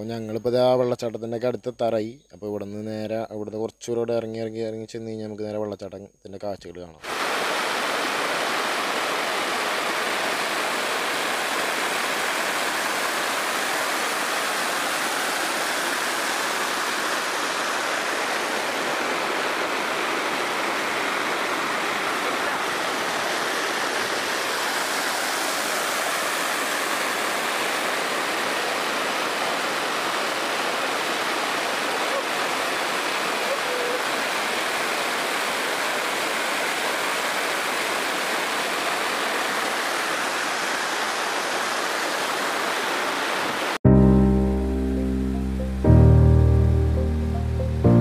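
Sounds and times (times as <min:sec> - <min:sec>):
waterfall rushing: 0:07.0 - 0:48.0.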